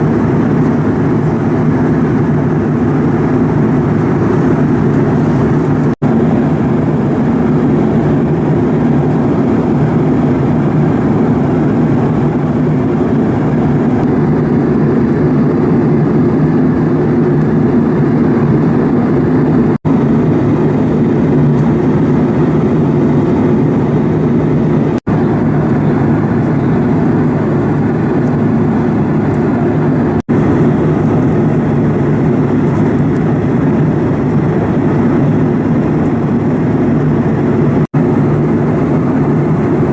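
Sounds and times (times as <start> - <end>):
airliner engine and air roar: 0.0 - 39.9.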